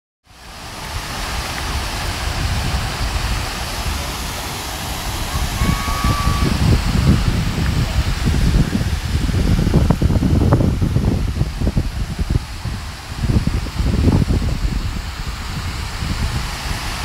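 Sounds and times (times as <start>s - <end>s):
fountain water splashing: 0.3s - 17.0s
wind buffeting microphone: 0.5s - 17.0s.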